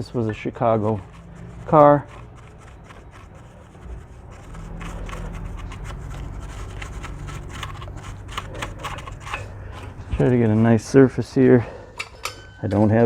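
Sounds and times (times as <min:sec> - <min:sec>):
wire brush scrubbing rusty steel: 0:00.0 - 0:13.0.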